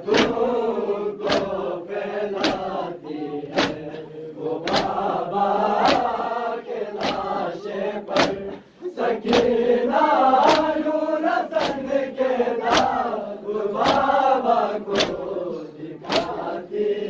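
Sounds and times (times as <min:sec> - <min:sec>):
hands slapping chests: 0:00.0 - 0:08.6, 0:09.2 - 0:09.7, 0:10.3 - 0:15.4, 0:16.0 - 0:16.7
crowd of men chanting: 0:00.0 - 0:17.0.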